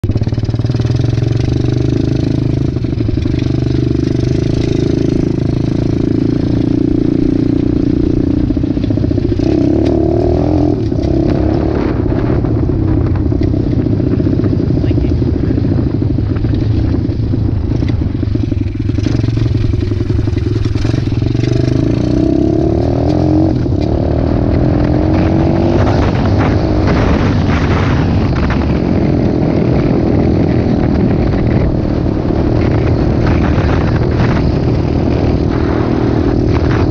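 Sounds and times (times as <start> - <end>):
dirt bike engine revving: 0.1 - 36.9.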